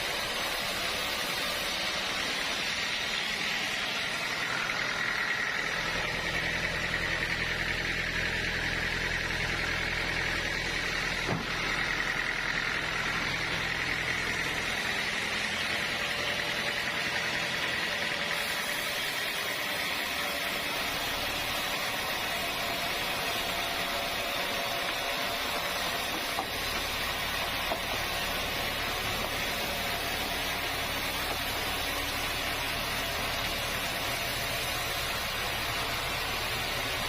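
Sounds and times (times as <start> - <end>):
low engine-like hum: 0.0 - 37.0
sawmill machinery whining: 0.0 - 37.0.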